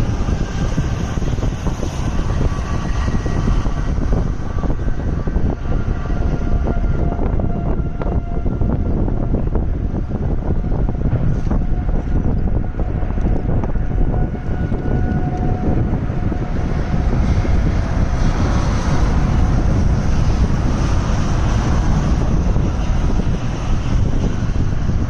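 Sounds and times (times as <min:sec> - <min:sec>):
gusts buffeting microphone: 0:00.0 - 0:25.0
wind roaring: 0:00.0 - 0:25.0.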